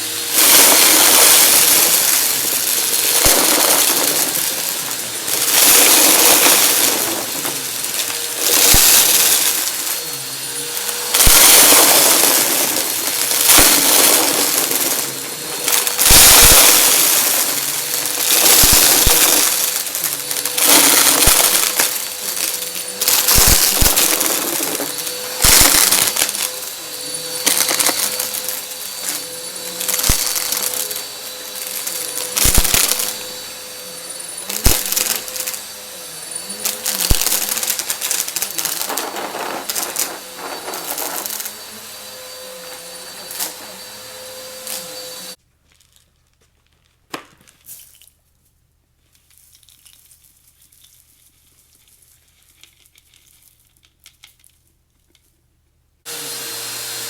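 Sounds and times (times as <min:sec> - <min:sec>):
vacuum cleaner whine: 0:00.0 - 0:45.4, 0:56.1 - 0:57.0
confetti crackling in vacuum: 0:00.0 - 0:46.1, 0:49.2 - 0:54.5.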